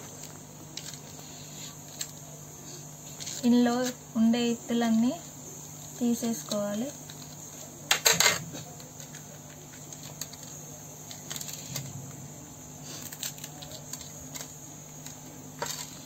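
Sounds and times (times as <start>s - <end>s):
faint crackles of chilli seeds: 0.0s - 16.0s.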